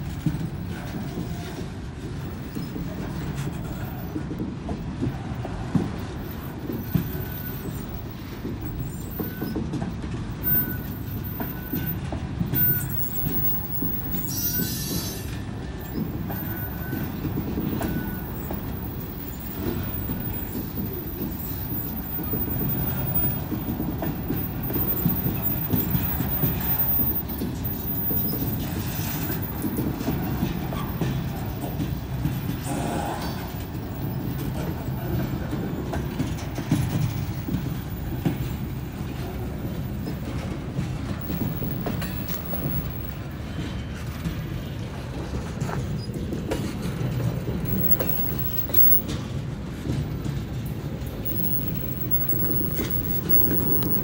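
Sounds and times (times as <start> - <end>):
wheel and brake squeals: 0.0 - 4.4, 5.0 - 54.0
train cars rumbling and clattering: 0.0 - 54.0.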